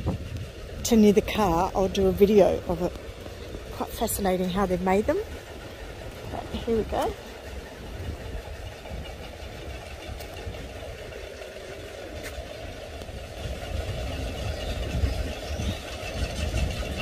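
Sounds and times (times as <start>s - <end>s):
windmills clicking: 0.0s - 17.0s.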